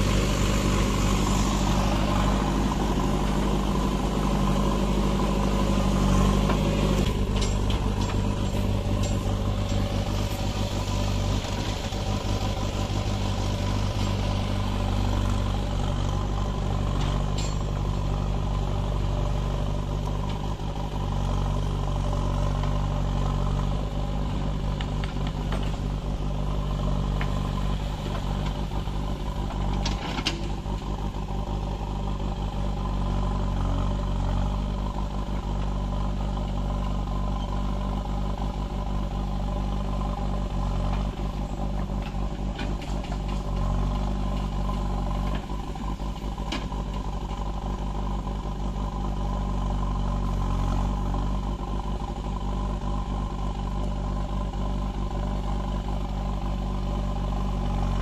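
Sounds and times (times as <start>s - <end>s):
backhoe digging soil: 0.0s - 58.0s
diesel engine running: 0.0s - 58.0s.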